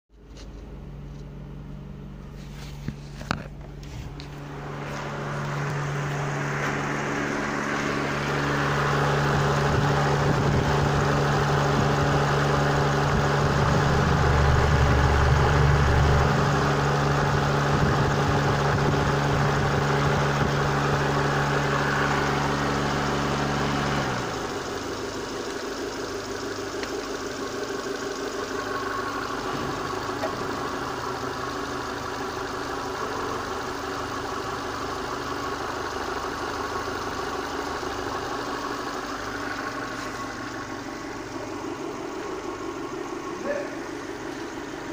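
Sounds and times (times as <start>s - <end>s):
car engine idling: 0.1s - 44.9s.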